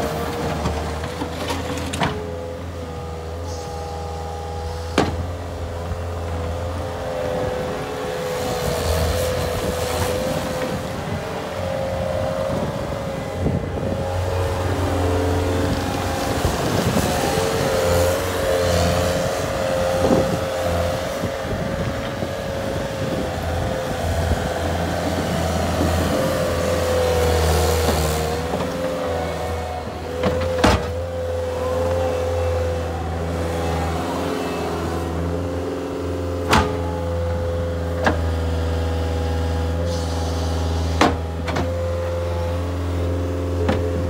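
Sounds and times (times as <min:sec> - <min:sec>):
track loader diesel engine: 0:00.0 - 0:44.0.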